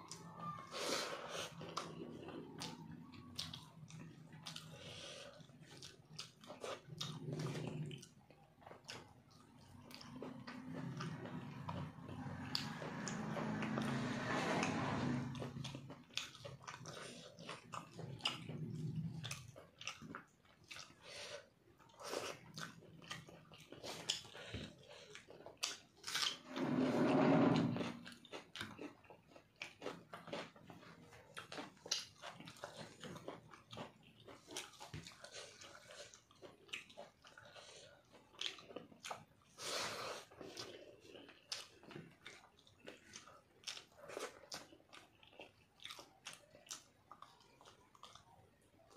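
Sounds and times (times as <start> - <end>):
person chewing food: 0.0 - 48.9.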